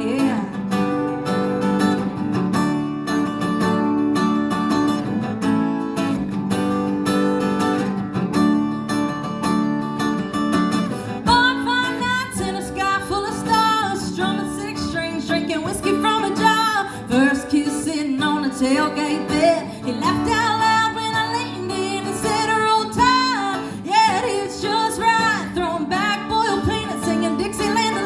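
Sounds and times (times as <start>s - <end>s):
acoustic guitar strumming: 0.0s - 28.0s
sliding guitar melody: 0.0s - 28.0s.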